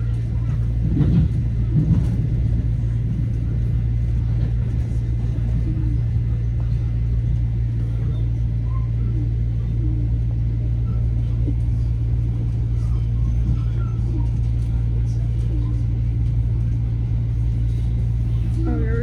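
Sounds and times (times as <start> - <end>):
running gear hum: 0.0 - 19.0
train wheels rumbling on rail: 0.0 - 19.0.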